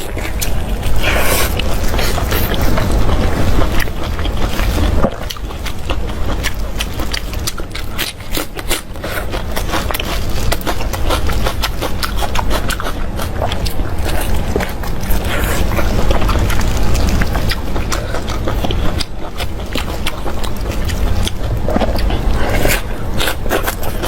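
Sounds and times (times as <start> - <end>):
low rumble: 0.0 - 8.1, 9.0 - 24.0
person chewing: 0.0 - 24.0.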